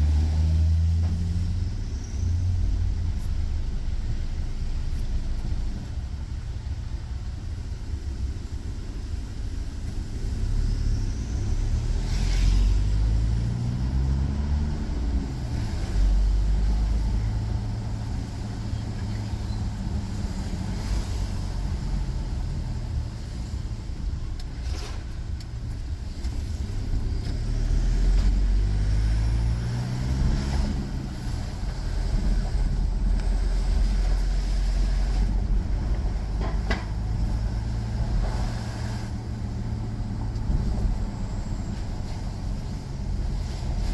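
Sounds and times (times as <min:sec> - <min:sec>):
car engine accelerating: 0:00.0 - 0:06.4, 0:09.7 - 0:43.9
road noise: 0:00.0 - 0:43.9.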